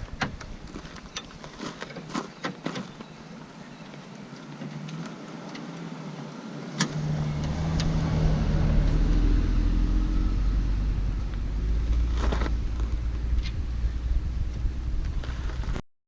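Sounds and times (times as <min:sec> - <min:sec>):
vehicle engine rumble: 0:02.8 - 0:15.8.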